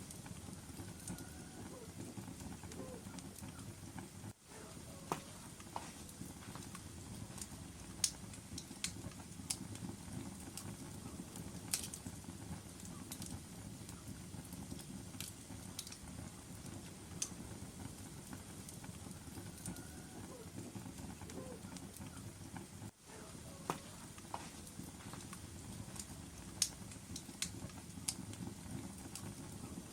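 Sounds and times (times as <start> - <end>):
fire rumbling: 0.0 - 29.9
wood crackling and popping: 0.0 - 29.9.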